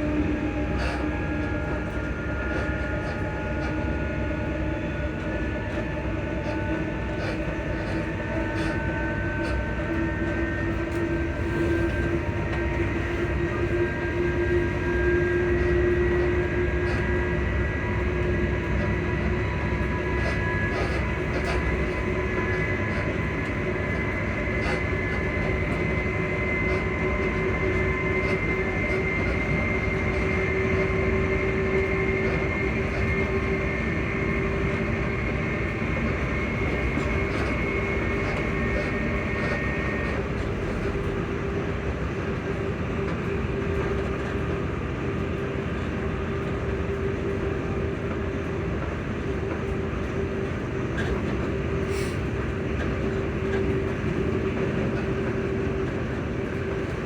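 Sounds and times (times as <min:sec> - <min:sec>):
electric train motor whine: 0:00.0 - 0:57.0
train wheels rumbling on track: 0:00.0 - 0:57.0.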